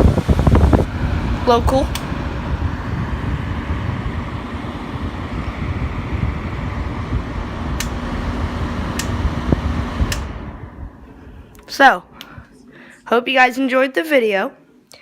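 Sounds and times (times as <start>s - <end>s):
air conditioner running: 0.0s - 13.6s.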